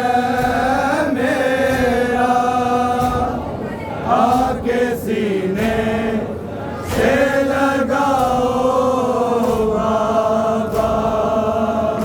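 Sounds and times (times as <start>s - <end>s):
sharp rhythmic slaps: 0.0s - 12.0s
voices chanting a lament: 0.0s - 12.0s.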